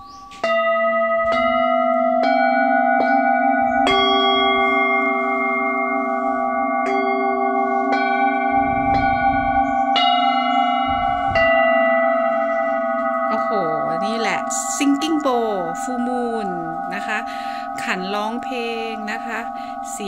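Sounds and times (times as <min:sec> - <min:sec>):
singing bowls ringing: 0:00.0 - 0:20.0
padded mallet striking bowl: 0:00.1 - 0:20.0.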